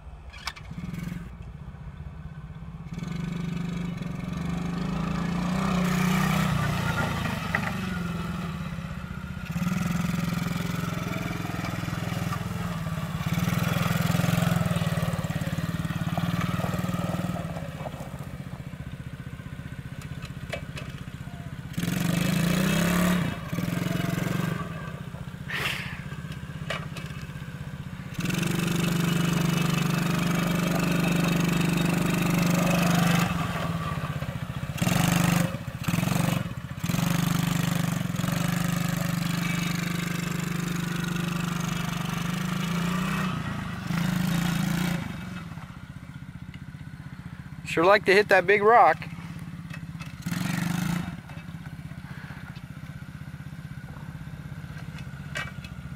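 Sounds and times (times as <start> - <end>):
quad bike engine running: 0.4 - 55.9.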